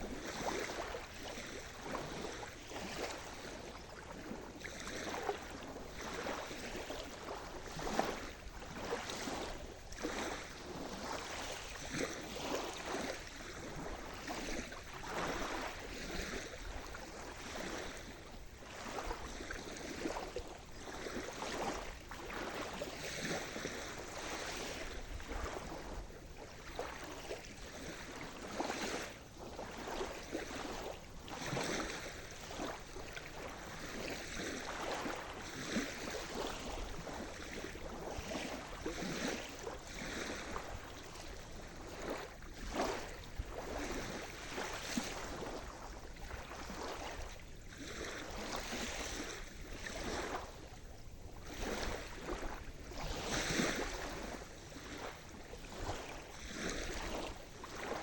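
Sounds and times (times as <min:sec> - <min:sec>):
small waves washing ashore: 0:00.0 - 0:58.0.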